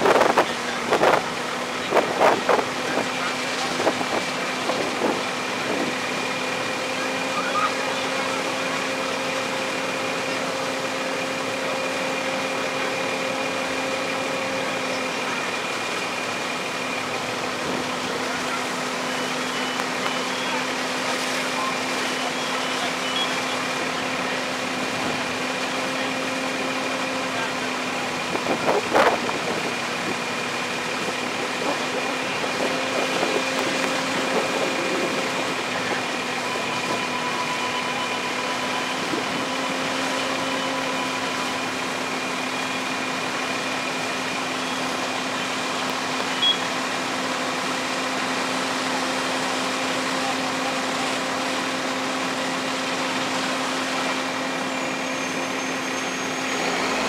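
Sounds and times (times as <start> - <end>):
fire engine pump droning: 0.0 - 57.0.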